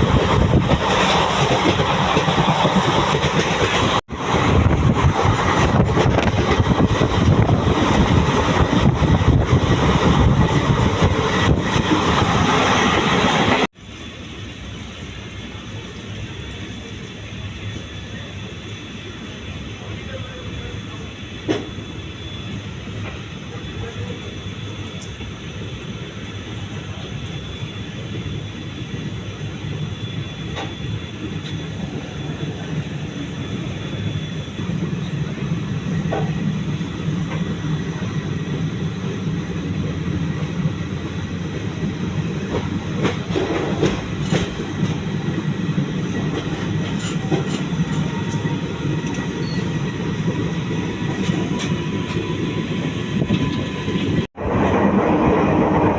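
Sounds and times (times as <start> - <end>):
train rumbling on rails: 0.0 - 55.9.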